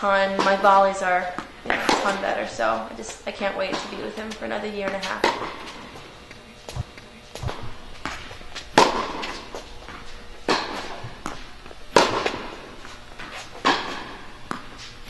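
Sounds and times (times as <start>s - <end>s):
tennis balls struck with rackets: 0.0s - 14.9s.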